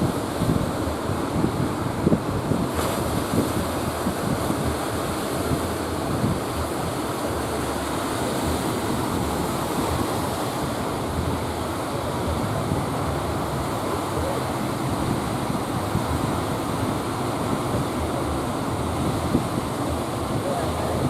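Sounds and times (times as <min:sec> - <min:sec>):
sea surf breaking: 0:00.0 - 0:21.0
wind buffeting microphone: 0:00.0 - 0:21.0.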